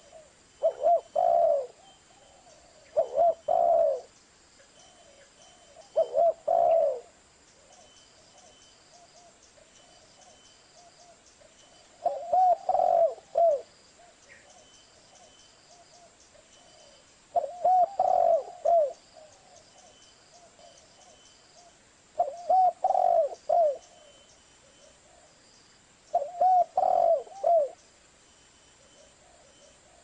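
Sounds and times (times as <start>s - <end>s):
dove cooing: 0.0s - 4.1s, 4.9s - 11.2s, 11.9s - 25.3s, 26.1s - 27.8s
faint dove cooing: 0.0s - 4.1s, 4.8s - 25.4s, 26.1s - 27.8s, 28.8s - 30.0s.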